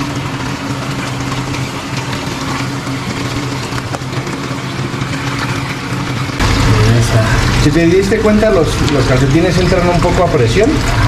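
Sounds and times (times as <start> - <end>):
low electric pump hum: 0.0 - 11.0
water splashing: 0.0 - 11.0.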